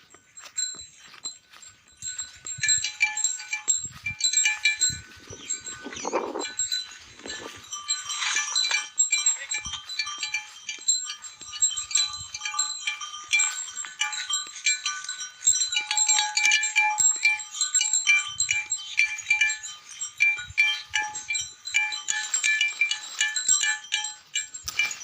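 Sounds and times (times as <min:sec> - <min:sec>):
livestock neck bells clanking: 0:00.0 - 0:25.0.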